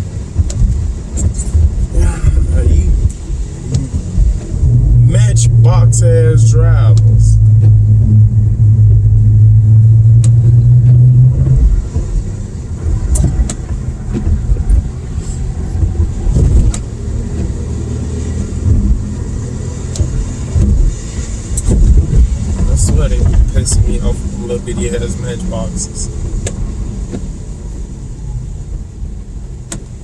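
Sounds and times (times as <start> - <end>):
car cabin engine drone: 0.0 - 30.0.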